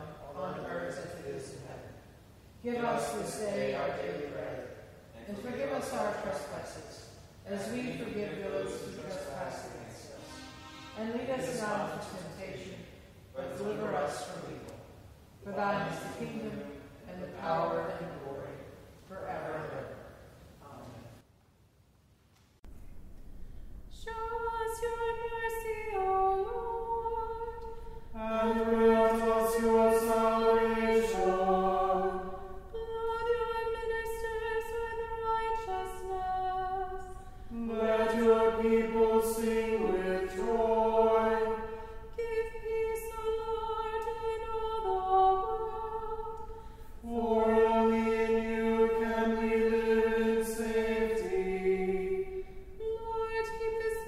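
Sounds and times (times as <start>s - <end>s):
voices singing a cappella: 0.0s - 1.9s, 2.6s - 12.8s, 15.4s - 18.5s, 24.0s - 54.0s.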